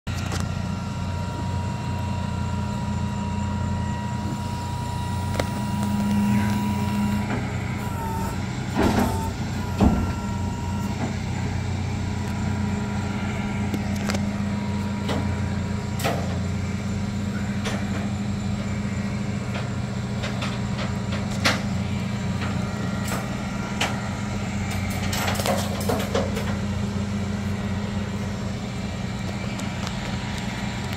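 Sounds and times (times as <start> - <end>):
truck engine idling: 0.1 - 30.9.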